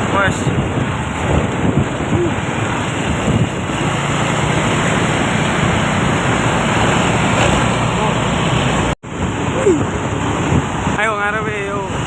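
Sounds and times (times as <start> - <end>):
wind noise on microphone: 0.0 - 7.9, 8.5 - 12.0
truck engine drone: 0.0 - 12.0.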